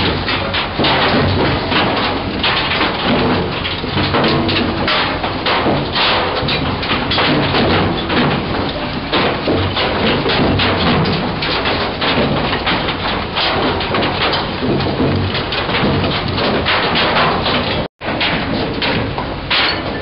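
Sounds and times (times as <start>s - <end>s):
stones and debris clattering: 0.0s - 20.0s.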